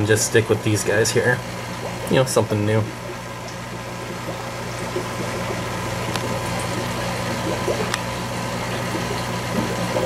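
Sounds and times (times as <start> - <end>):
air bubbles fizzing in water: 0.0 - 10.0
air pump humming: 0.0 - 10.0.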